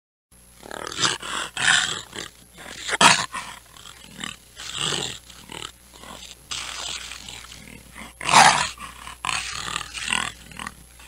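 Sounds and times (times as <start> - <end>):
snow leopard rough calls: 0.6 - 11.0.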